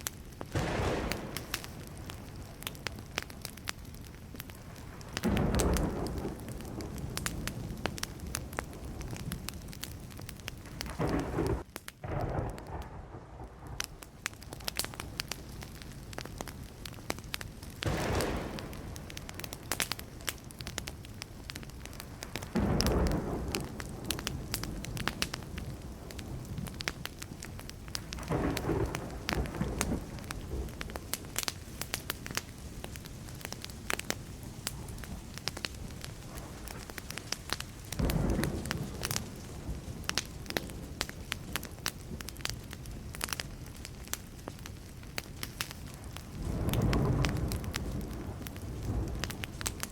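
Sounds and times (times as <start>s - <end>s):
wood fire crackling and popping: 0.0s - 49.9s
thunder rumbling: 0.4s - 43.9s, 45.8s - 49.9s.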